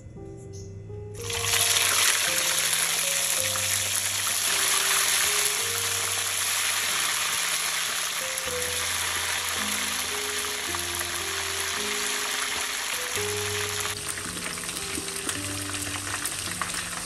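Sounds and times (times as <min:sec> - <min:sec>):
soft background music: 0:00.0 - 0:17.0
chicken sizzling in hot oil: 0:01.2 - 0:17.0.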